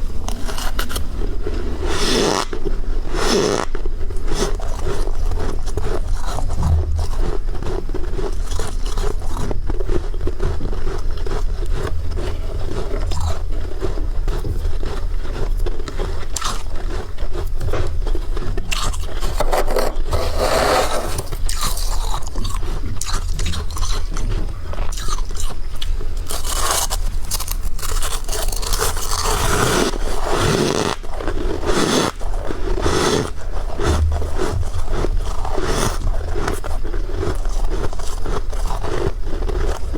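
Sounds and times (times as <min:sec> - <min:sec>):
crunching frost: 0:00.0 - 0:39.9.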